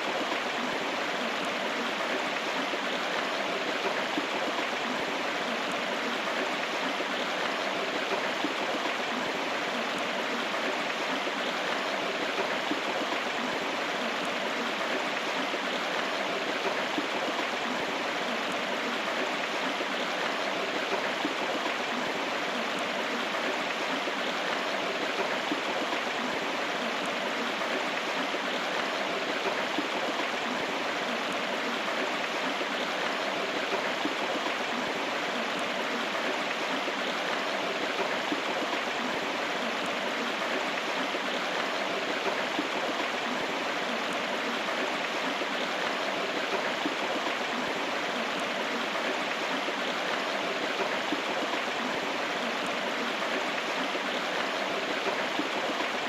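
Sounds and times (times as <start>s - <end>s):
river water running over stones: 0.0s - 56.0s.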